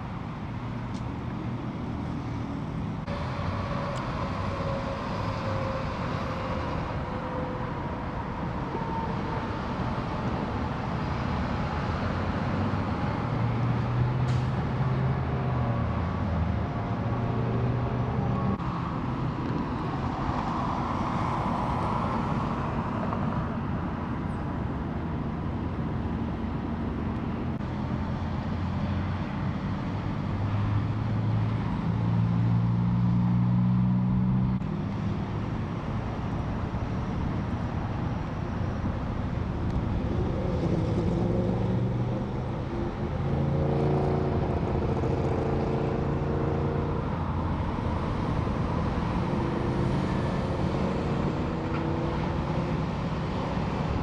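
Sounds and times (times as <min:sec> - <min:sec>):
traffic and engine noise: 0:00.0 - 0:54.0.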